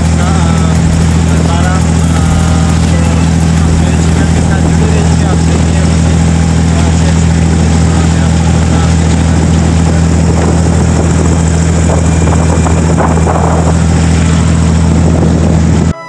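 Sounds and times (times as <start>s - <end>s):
boat diesel engine humming: 0.0s - 16.0s.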